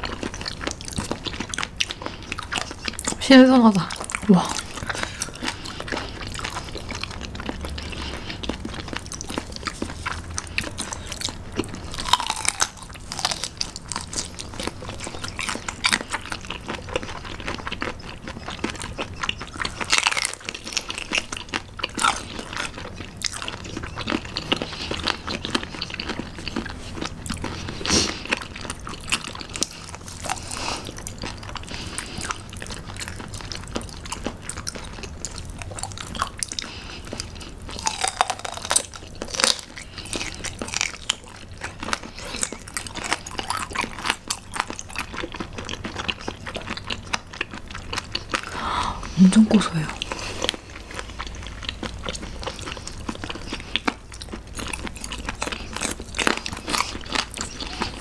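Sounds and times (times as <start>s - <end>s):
chewing crunchy bones: 0.0s - 58.0s
wet mouth sounds: 0.0s - 58.0s.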